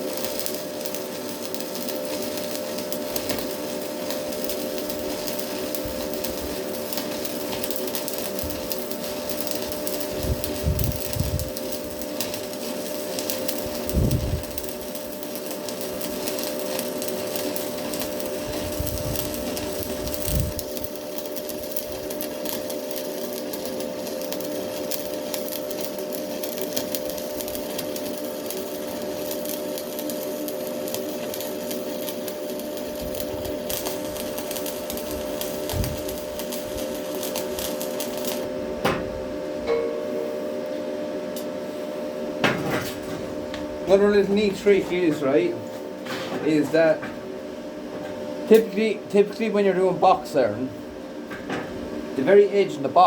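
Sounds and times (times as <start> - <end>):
steady hum: 0.0 - 53.0
welding arc crackling and sizzling: 0.0 - 53.0.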